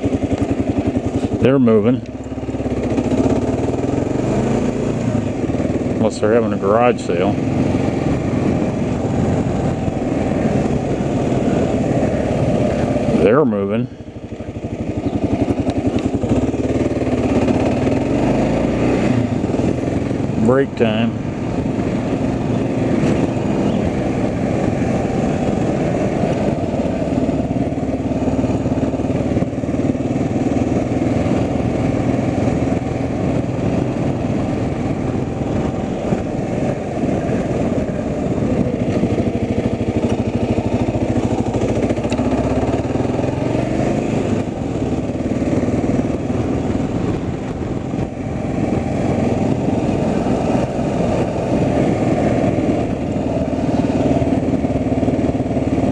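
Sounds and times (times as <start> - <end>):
vehicle engine and road rumble: 0.0 - 55.9.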